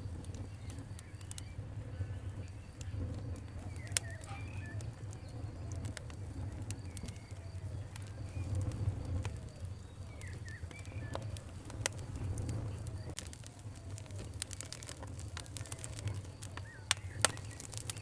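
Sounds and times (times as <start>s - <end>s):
low rumble: 0.0s - 17.9s
fire crackling and popping: 0.0s - 18.0s
bird calls: 0.4s - 14.0s, 15.5s - 18.0s.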